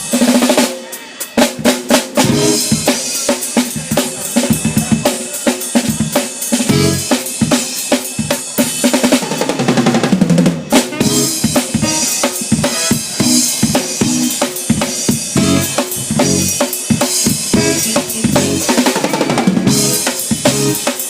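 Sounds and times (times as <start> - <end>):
cymbals: 0.0 - 9.6, 10.6 - 21.0
live band playing: 0.0 - 21.0.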